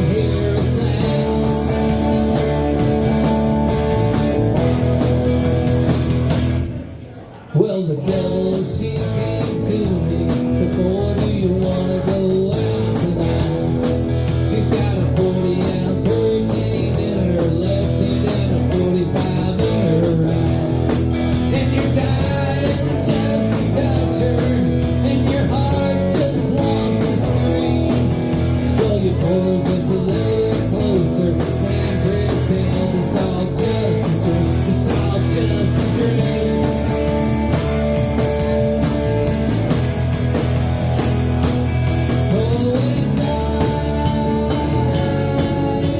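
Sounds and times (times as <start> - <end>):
rock and blues music with singing: 0.0 - 45.9.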